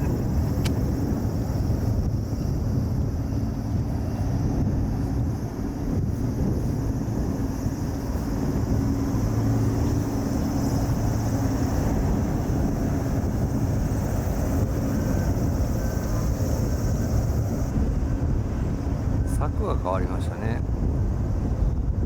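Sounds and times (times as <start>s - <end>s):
steady low engine drone: 0.0s - 22.0s.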